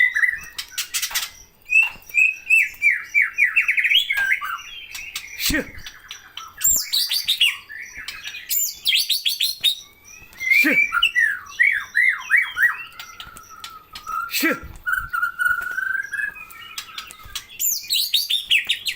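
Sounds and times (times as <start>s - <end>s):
songbird singing: 0.0s - 18.9s.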